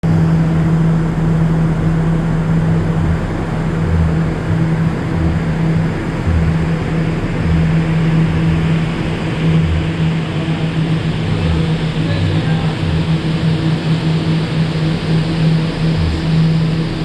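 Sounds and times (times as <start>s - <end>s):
air conditioning unit hum: 0.0s - 17.0s
low rumble: 0.0s - 17.0s.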